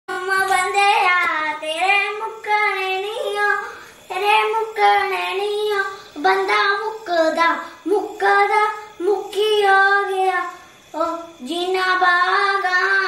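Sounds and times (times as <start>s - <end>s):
boy singing unaccompanied: 0.1s - 13.0s.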